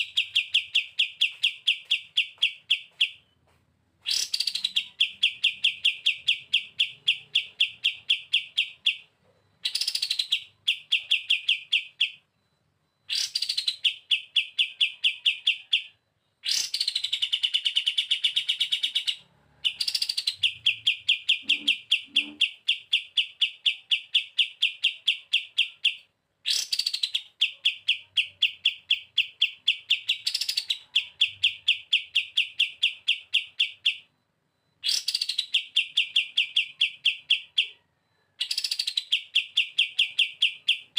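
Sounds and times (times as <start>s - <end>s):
bird singing rattling phrases: 0.0s - 3.4s, 4.0s - 40.9s.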